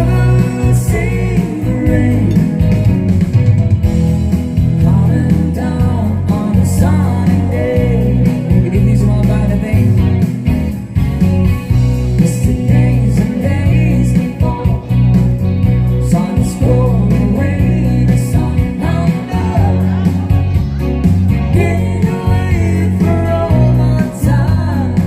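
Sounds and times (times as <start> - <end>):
person singing: 0.0 - 3.0, 4.6 - 10.4, 12.0 - 25.0
rock band playing: 0.0 - 25.0.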